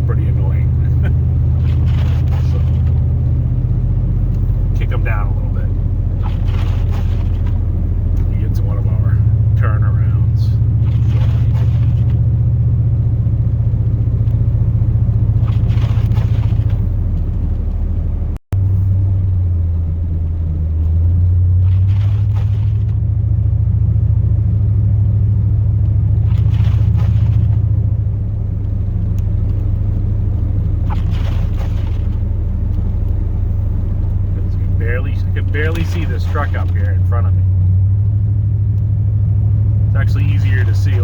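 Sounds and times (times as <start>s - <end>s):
truck engine and road noise: 0.0s - 41.0s.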